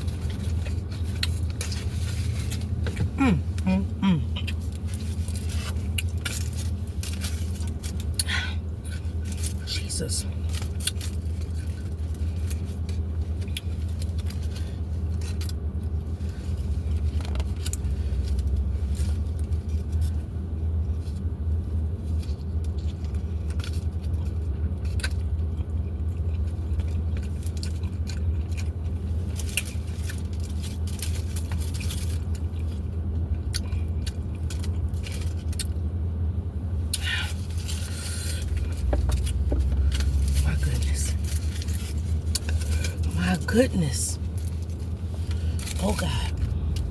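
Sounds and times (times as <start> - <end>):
chewing and crunching tacos: 0.0 - 46.9
low engine-like hum: 0.0 - 46.9.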